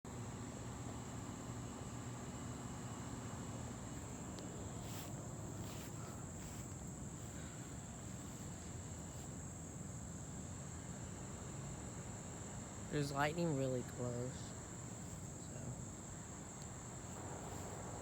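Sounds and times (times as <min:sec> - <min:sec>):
insects chirring: 0:00.1 - 0:18.0.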